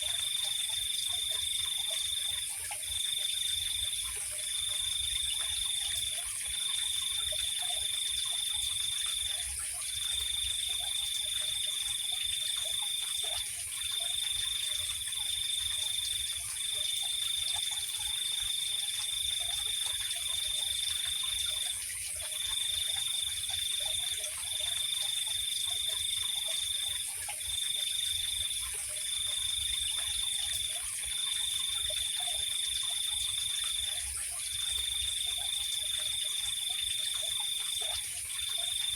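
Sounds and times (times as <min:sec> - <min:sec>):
faint frog calls: 0:00.0 - 0:38.9
insect trill: 0:00.0 - 0:38.9.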